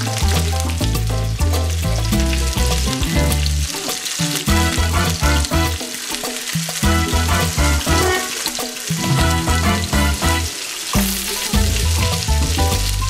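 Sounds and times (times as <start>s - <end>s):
background music with bass line: 0.0s - 13.0s
shrimp sizzling in hot oil: 0.0s - 13.0s.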